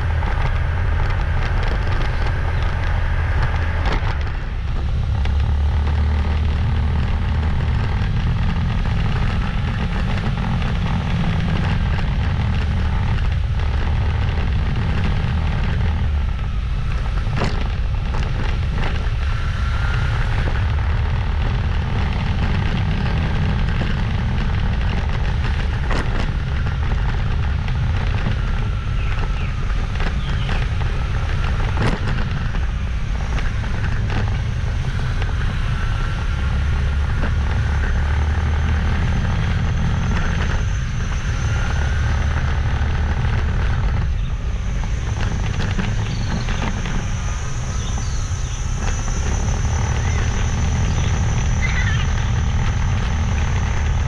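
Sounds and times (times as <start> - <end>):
motorbike engine rumble: 0.0 - 54.0
wind noise: 0.0 - 54.0.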